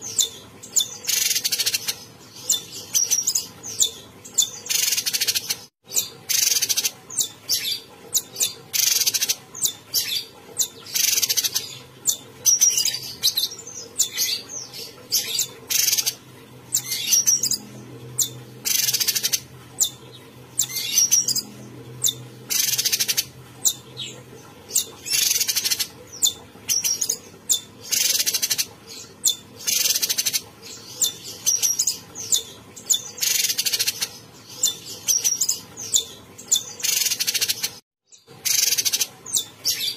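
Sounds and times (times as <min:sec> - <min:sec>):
bird singing high phrases: 0:00.0 - 0:39.9.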